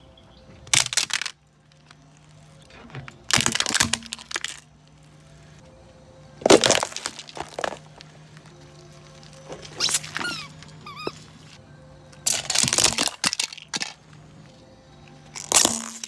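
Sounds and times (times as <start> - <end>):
objects crunching under car tyres: 0.5 - 5.6, 6.4 - 11.6, 12.2 - 16.0
steady low hum: 1.4 - 16.0.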